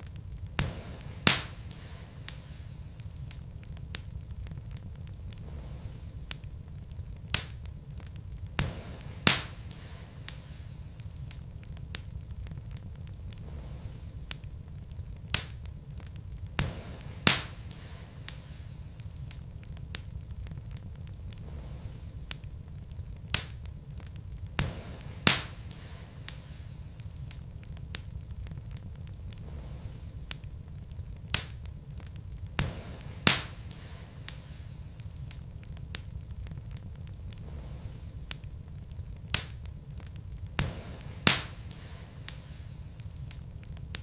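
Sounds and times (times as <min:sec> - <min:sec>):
burning logs crackling and popping: 0:00.0 - 0:44.0
low rumble of flames: 0:00.0 - 0:44.0.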